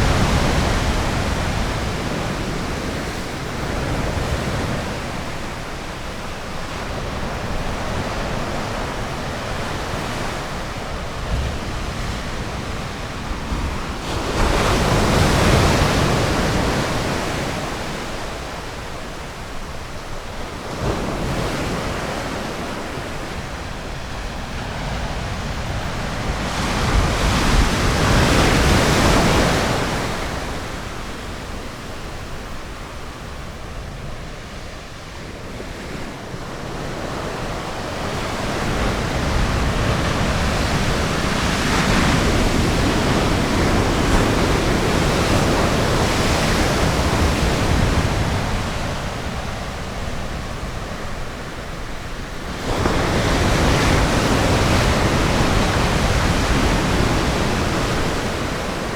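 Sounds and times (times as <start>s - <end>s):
ocean surf breaking on a beach: 0.0s - 58.9s.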